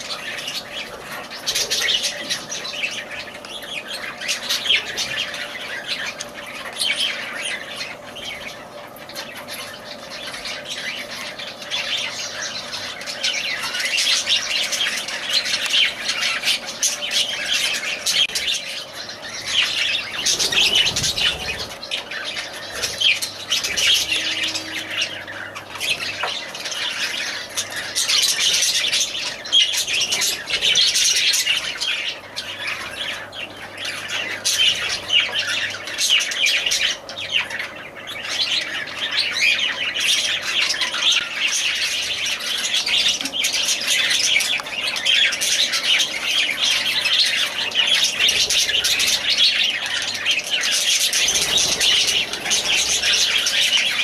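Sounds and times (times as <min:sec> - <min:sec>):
parrots chirping and squawking: 0:00.0 - 0:54.0.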